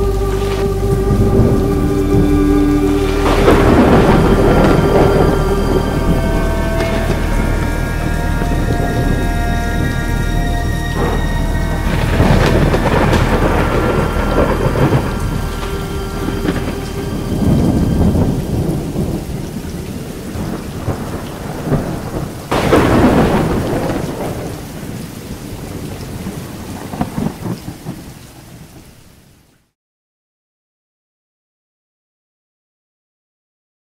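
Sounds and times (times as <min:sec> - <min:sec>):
rolling thunder: 0:00.0 - 0:28.9
steady rain: 0:00.0 - 0:29.8
loud thunderclap: 0:00.9 - 0:28.2.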